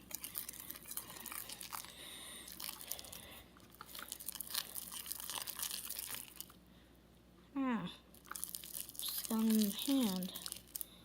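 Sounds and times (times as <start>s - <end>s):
slime crackling and squelching: 0.0s - 6.6s, 8.1s - 11.0s.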